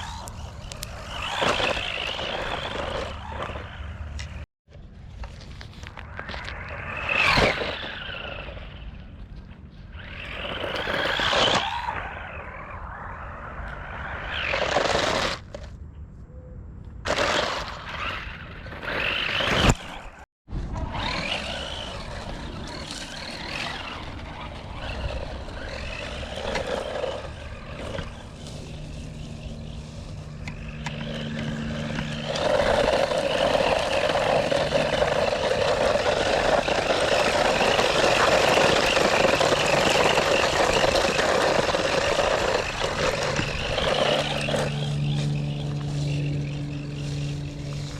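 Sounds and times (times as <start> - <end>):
electric toy truck motor and tyres: 0.0 - 15.7, 17.0 - 47.9.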